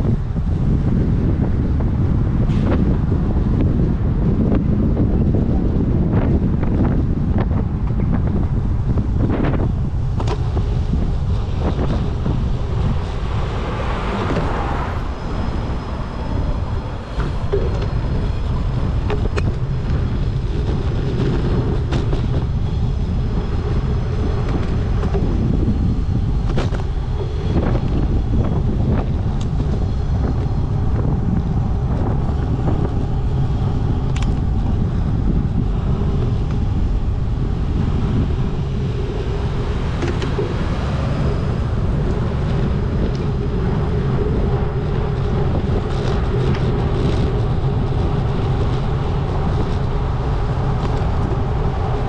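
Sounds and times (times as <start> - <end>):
city street traffic: 0.0 - 52.0
wind rumble on microphone: 0.0 - 52.0.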